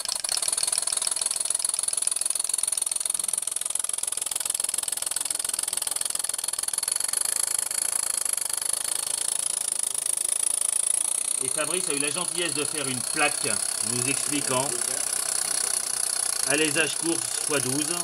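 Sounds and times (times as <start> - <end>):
model steam engine exhaust puffs: 0.0 - 18.0.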